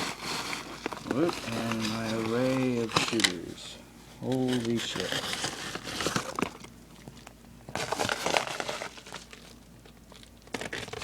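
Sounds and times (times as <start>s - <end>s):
packaging crinkling and rustling: 0.0s - 3.6s, 4.2s - 11.0s.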